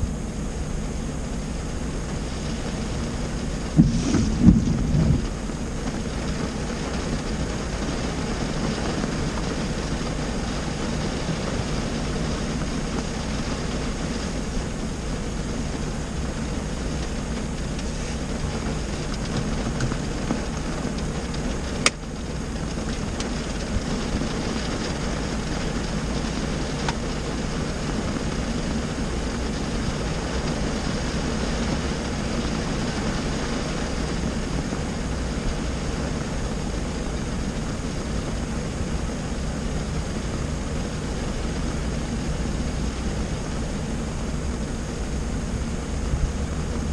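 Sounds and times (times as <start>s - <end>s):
low steady hum: 0.0s - 46.9s
rain on a car roof: 0.0s - 46.9s.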